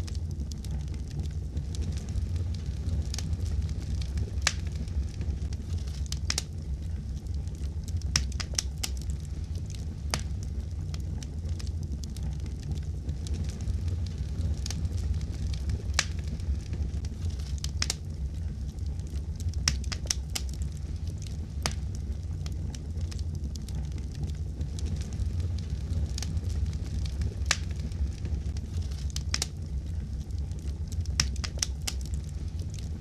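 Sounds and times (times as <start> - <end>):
fire crackling and popping: 0.0 - 33.0
low fire rumble: 0.0 - 33.0.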